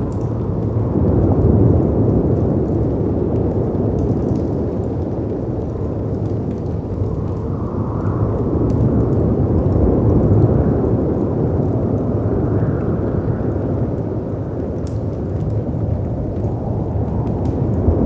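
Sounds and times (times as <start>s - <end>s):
fireplace crackles: 0.0s - 18.0s
howling wind: 0.0s - 18.0s.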